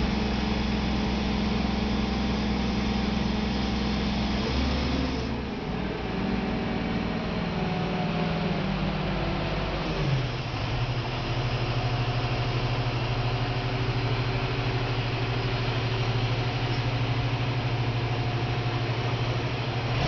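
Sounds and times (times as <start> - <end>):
crane engine humming: 0.0 - 20.0.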